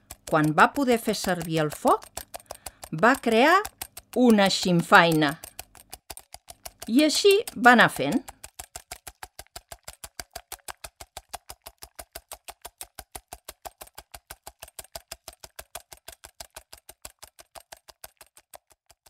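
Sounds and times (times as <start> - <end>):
fast even ticking: 0.0 - 19.0.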